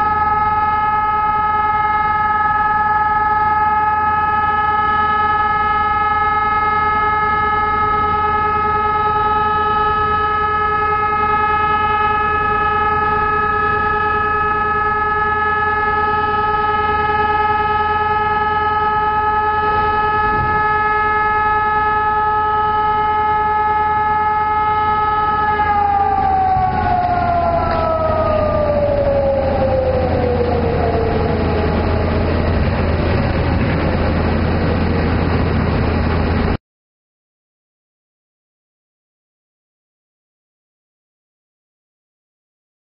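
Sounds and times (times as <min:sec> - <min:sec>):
siren steady tone winding down: 0:00.0 - 0:36.6.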